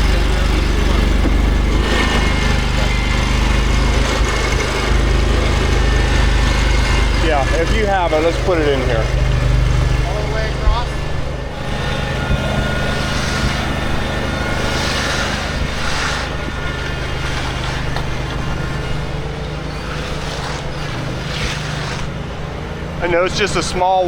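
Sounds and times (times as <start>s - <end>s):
engine humming: 0.0s - 24.0s
rushing scraping noises: 0.0s - 24.0s.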